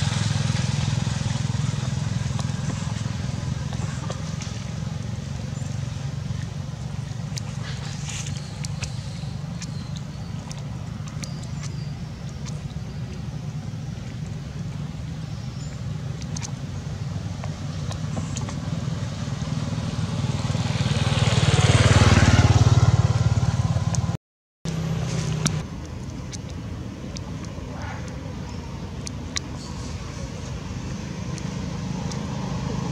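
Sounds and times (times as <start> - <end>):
vehicle passing close: 0.0 - 25.6, 29.5 - 32.9
low engine hum of traffic: 0.0 - 32.9.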